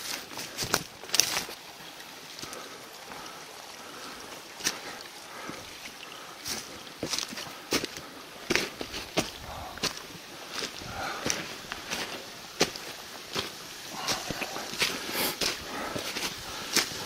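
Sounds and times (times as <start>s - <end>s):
footsteps on rough ground: 0.0s - 1.6s, 4.6s - 17.0s
flowing water: 0.0s - 17.0s.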